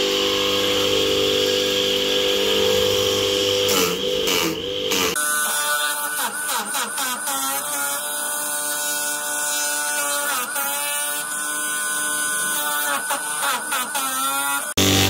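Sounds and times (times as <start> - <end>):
chopper motor whine: 0.0 - 7.6, 10.2 - 15.0.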